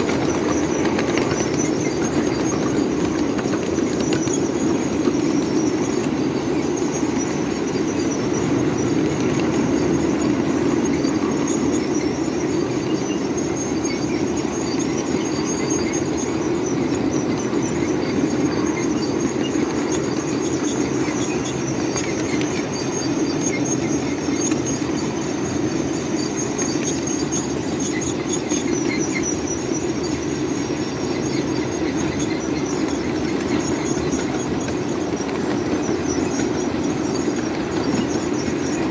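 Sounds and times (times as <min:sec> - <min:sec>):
brakes squealing: 0:00.0 - 0:38.9
wheels rumbling on rails: 0:00.0 - 0:38.9.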